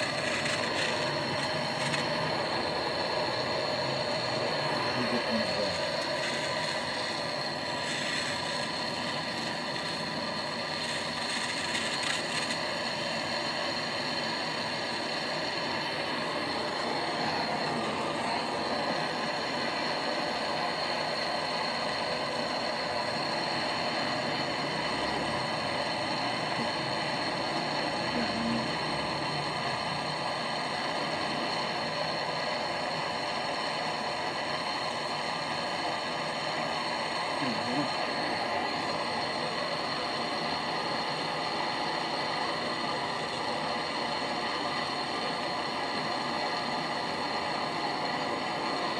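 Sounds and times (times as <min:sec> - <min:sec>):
torch flame hissing: 0:00.0 - 0:48.9.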